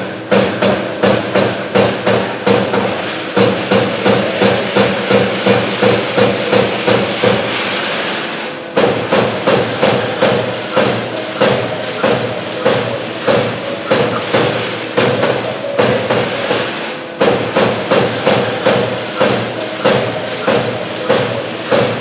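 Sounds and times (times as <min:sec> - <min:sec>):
machine hum: 0:00.0 - 0:22.0
punch press punching sheet metal: 0:00.0 - 0:22.0.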